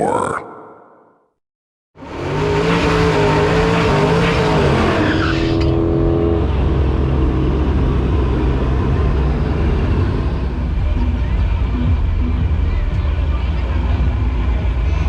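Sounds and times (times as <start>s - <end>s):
car engine running loud: 2.0s - 15.0s.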